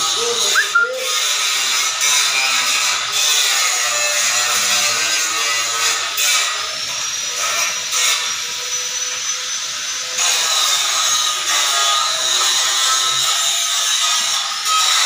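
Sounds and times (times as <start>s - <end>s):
power tool running: 0.0s - 14.7s.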